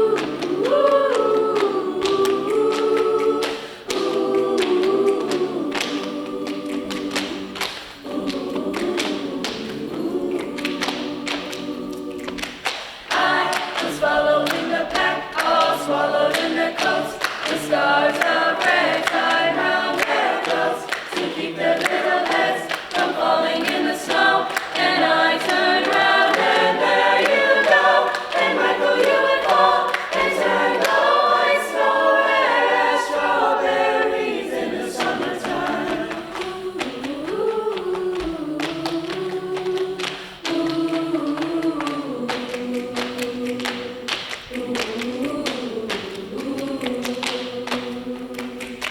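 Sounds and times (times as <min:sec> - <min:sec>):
choir singing a cappella: 0:00.0 - 0:48.9.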